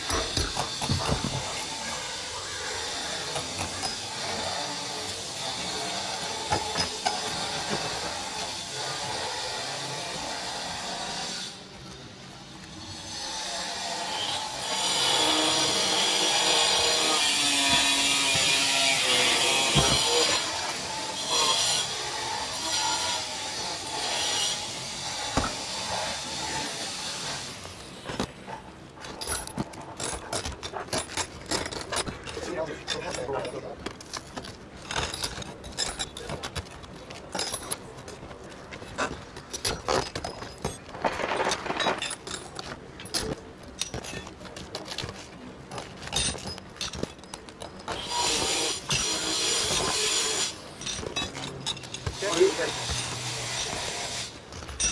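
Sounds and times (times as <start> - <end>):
pry bar scraping shingles: 0.0 - 11.5, 12.9 - 54.9.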